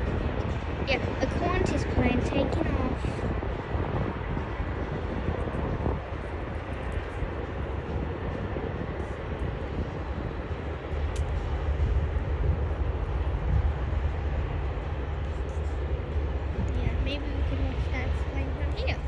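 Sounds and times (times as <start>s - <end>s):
deep rumble: 0.0s - 19.0s
jet engines roaring at takeoff: 0.0s - 19.0s.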